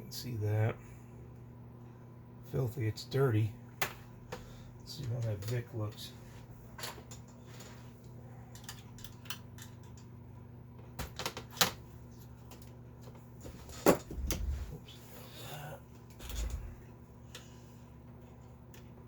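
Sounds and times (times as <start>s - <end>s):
faint steady low hum: 0.0s - 19.0s.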